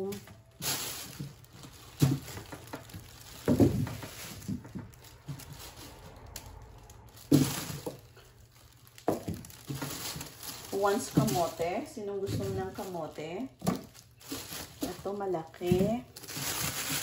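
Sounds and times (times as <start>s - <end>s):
plastic sheeting rustling: 0.0s - 17.0s.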